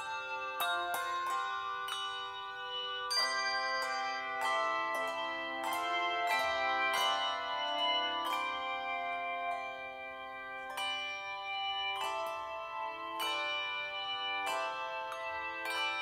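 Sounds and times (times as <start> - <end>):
handbell choir playing chords: 0.0 - 16.0.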